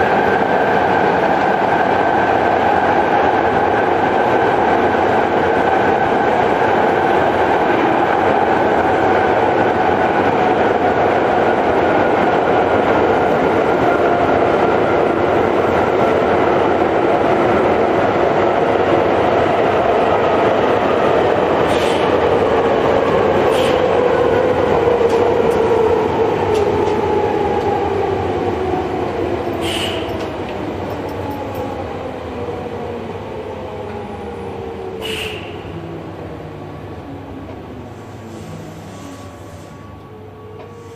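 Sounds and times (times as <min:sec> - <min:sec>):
subway motor whine: 0:00.0 - 0:40.9.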